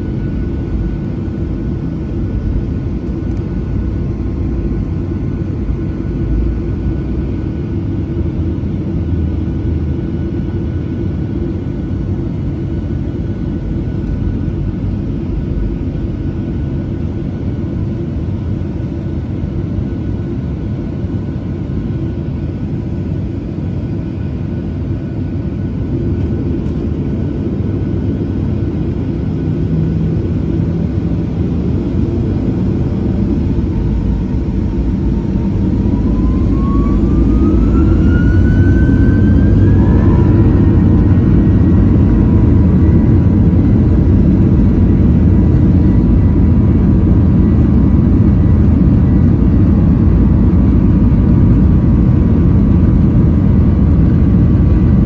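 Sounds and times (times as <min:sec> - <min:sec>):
jet engine whine climbing: 0:00.0 - 0:55.0
jet engines rumbling in cabin: 0:00.0 - 0:55.0.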